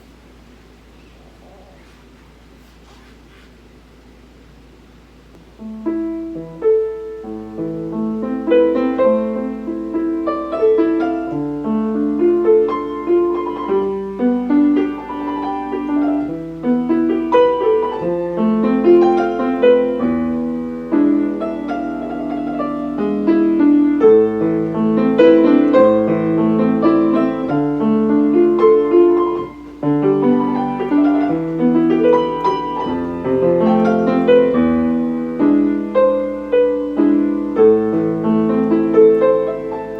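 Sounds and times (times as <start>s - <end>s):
piano piece: 5.4s - 39.9s.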